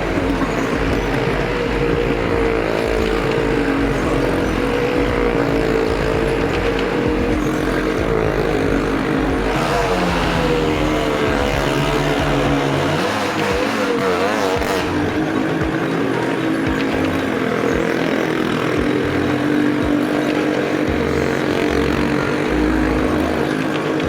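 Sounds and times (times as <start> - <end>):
engines at high revs: 0.0 - 24.0.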